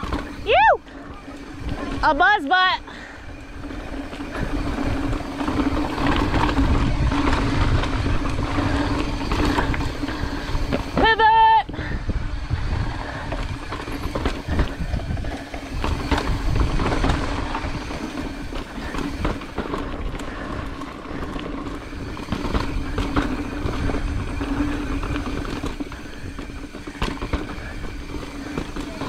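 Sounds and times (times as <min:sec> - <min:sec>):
bike rattling and clattering: 0:00.0 - 0:29.0
bike tyres rolling: 0:00.0 - 0:29.0
wind rumble on microphone: 0:00.0 - 0:29.0.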